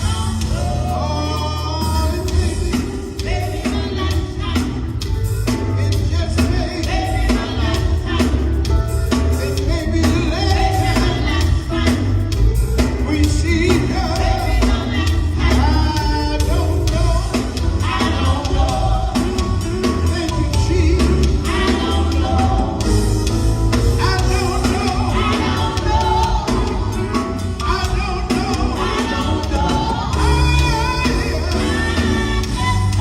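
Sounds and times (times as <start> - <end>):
gospel band playing: 0.0 - 33.0
person singing: 0.0 - 33.0
steady drum beat: 0.0 - 33.0.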